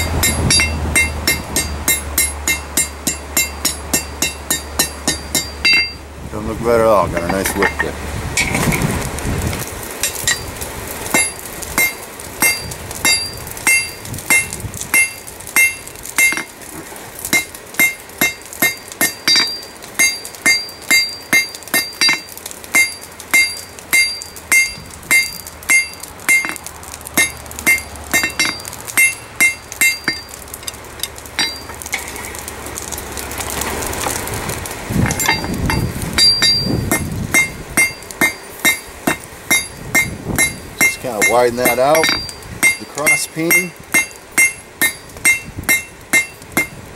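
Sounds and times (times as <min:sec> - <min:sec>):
hammer striking hot metal on anvil: 0:00.0 - 0:06.0, 0:07.1 - 0:08.6, 0:10.0 - 0:16.6, 0:17.3 - 0:32.1, 0:35.0 - 0:46.8.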